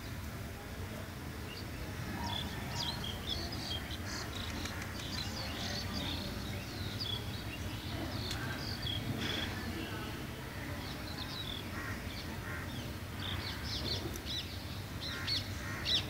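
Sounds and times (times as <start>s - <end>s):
small birds chirping: 1.4s - 16.0s.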